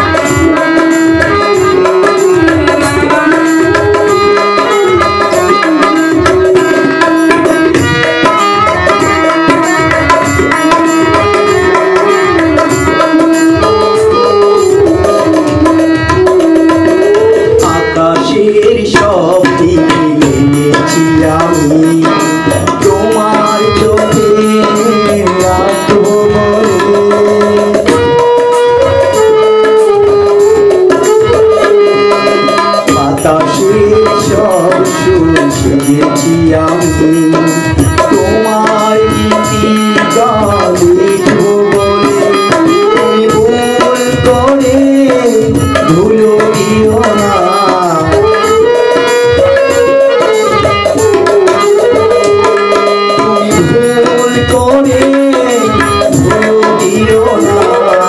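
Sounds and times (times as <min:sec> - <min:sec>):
harmonium: 0:00.0 - 0:58.0
tabla rhythm: 0:00.0 - 0:58.0
wavering melody line: 0:00.0 - 0:58.0.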